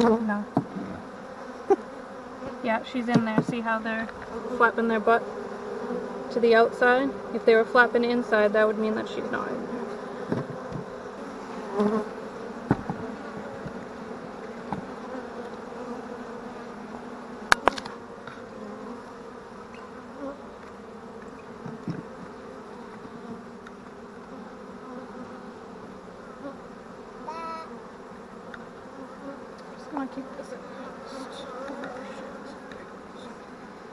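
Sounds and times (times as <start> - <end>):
bees buzzing: 0.0 - 33.9.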